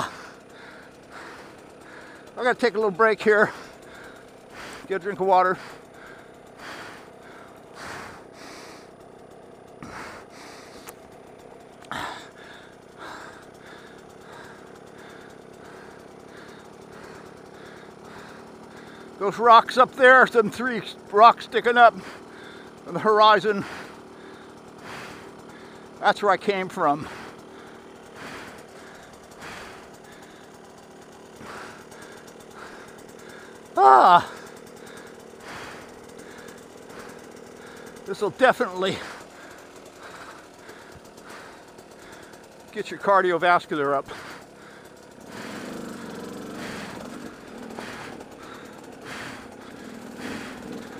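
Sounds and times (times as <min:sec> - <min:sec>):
person breathing hard: 0:00.0 - 0:02.4, 0:03.3 - 0:19.3, 0:21.9 - 0:22.8, 0:23.5 - 0:26.0, 0:26.7 - 0:43.1, 0:44.0 - 0:50.9
dirt bike engine idling: 0:00.0 - 0:50.9.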